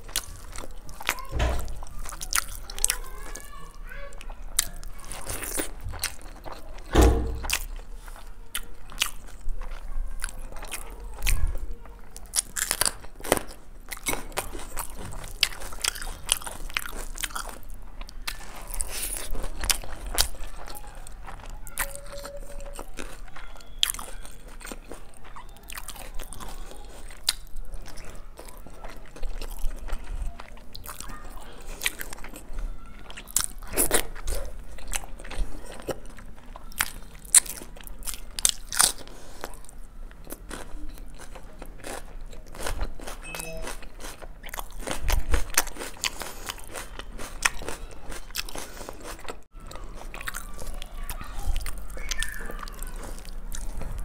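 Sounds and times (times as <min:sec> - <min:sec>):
chewing with wet mouth clicks: 0:00.0 - 0:03.5, 0:04.1 - 0:54.0
crunchy bites: 0:04.6 - 0:11.4, 0:12.3 - 0:54.0.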